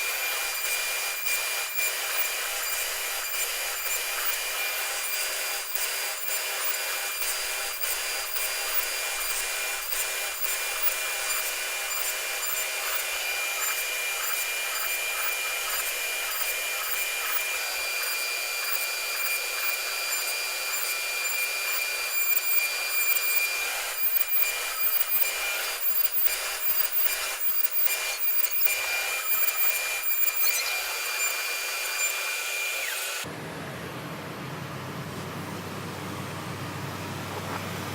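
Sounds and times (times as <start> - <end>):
scratchy rasping with clicks: 0.0 - 33.2
cnc router spindle whine: 0.0 - 34.4.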